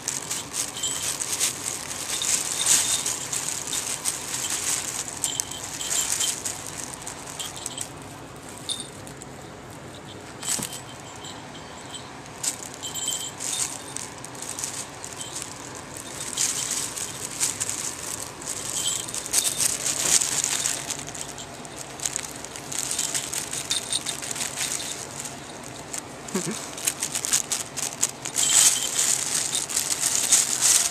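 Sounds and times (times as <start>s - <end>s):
plastic bag crinkling: 0.0s - 30.9s
small collar bell jingling: 0.0s - 30.9s.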